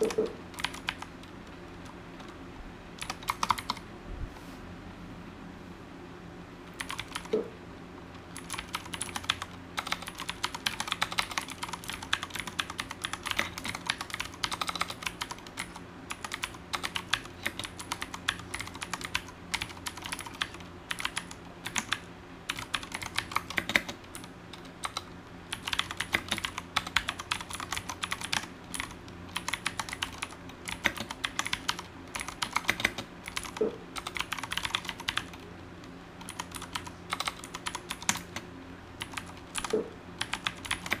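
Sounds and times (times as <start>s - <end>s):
mechanical keyboard typing clicks: 0.0s - 1.3s, 3.0s - 3.8s, 6.8s - 7.4s, 8.3s - 35.4s, 36.2s - 38.4s, 39.0s - 41.0s.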